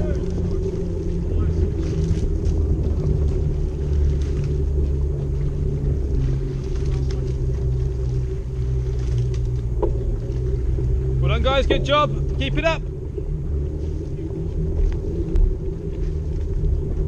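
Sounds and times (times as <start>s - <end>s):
low droning hum: 0.0s - 17.0s
steady low rumble: 0.0s - 17.0s.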